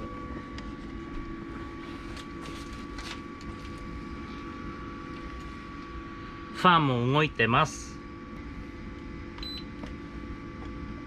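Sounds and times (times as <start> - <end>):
cooling fan whirring: 0.0 - 11.0.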